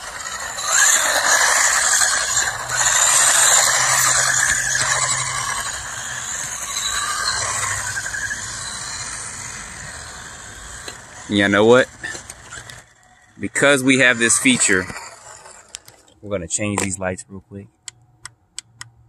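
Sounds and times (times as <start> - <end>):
electric motor whine: 0.0 - 16.1
small tyres hissing on asphalt: 0.0 - 16.1.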